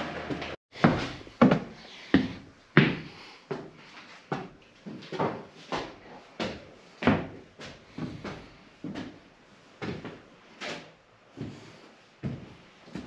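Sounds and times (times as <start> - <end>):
footsteps on wooden floor: 0.1 - 9.2, 11.4 - 13.0.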